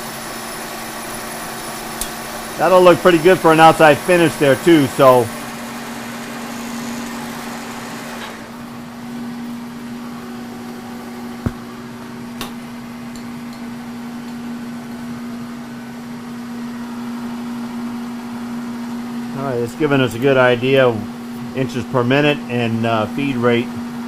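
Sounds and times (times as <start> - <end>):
milling machine humming: 0.0 - 24.0.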